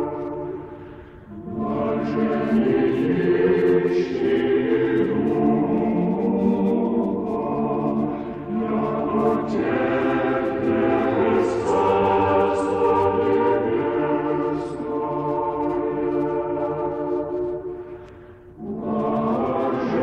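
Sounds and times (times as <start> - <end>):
choir singing a cappella chant: 0.0 - 18.0, 18.6 - 20.0.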